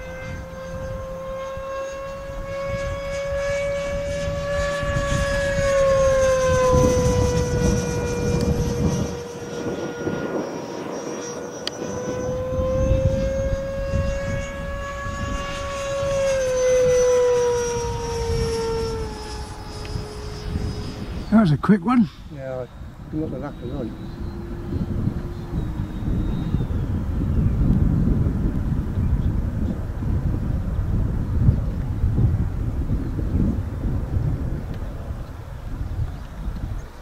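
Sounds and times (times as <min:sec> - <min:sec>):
model jet fan whine: 0:00.0 - 0:37.0.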